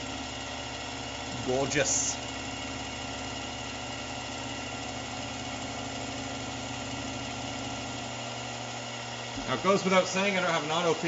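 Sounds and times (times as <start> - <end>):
milling machine spindle hum: 0.0 - 11.0.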